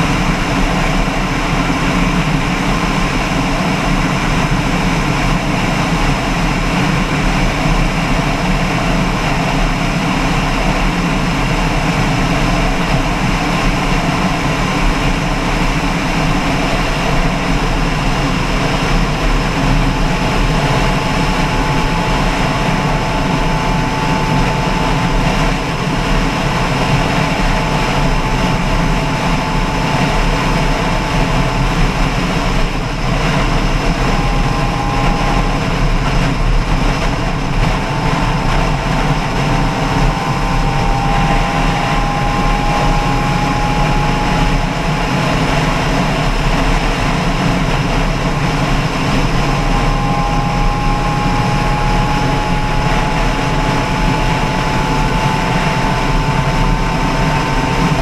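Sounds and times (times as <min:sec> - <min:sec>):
faint thin whine: 0:00.0 - 0:58.0
loud engine drone with rushing: 0:00.0 - 0:58.0.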